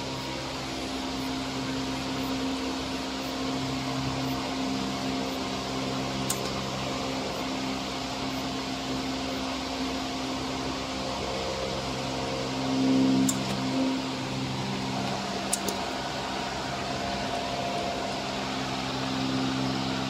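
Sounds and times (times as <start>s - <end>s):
cooling fans humming: 0.0s - 20.0s.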